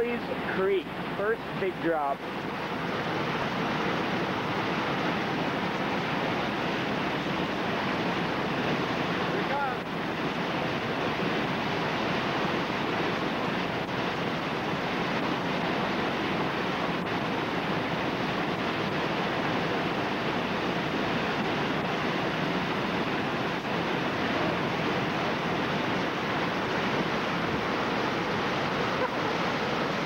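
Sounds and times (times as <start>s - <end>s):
whitewater rapids rushing: 0.0s - 30.0s.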